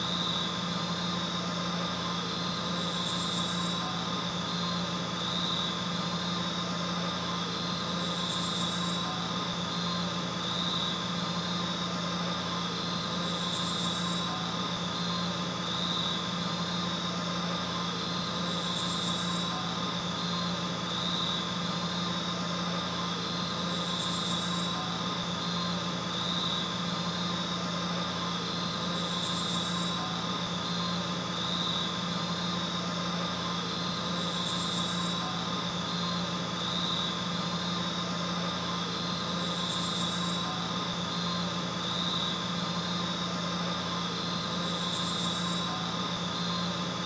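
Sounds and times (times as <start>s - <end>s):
droning hum with whine: 0.0s - 47.0s.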